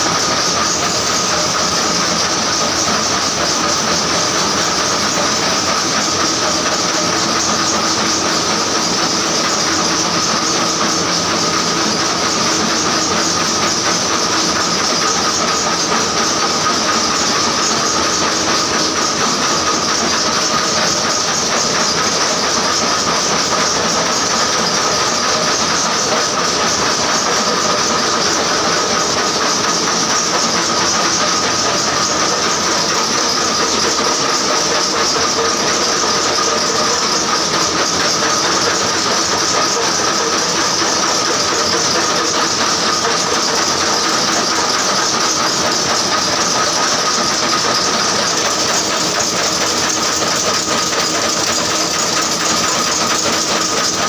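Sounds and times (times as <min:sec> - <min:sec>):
machine hiss: 0:00.0 - 0:54.0
machines clattering: 0:00.0 - 0:54.0.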